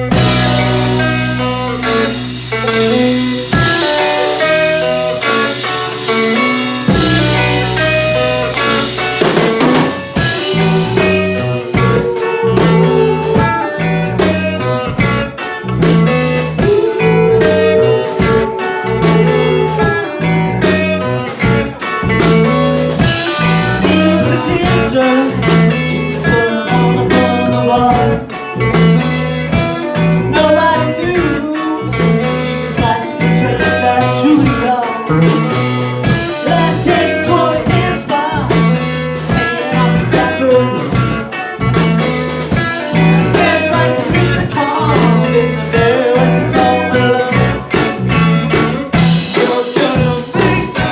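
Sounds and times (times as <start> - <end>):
drum kit steady beat: 0.0 - 50.9
rock band instrumental jam: 0.0 - 50.9.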